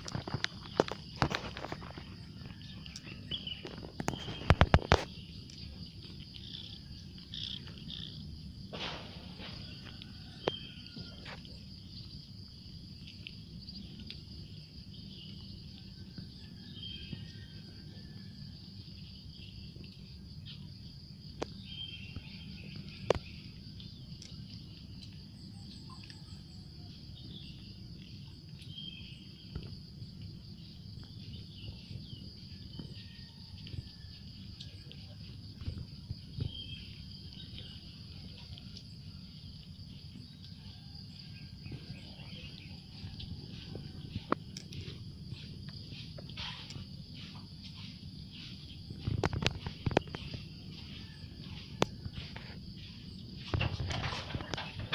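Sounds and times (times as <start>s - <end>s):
insects buzzing: 0.0s - 54.9s.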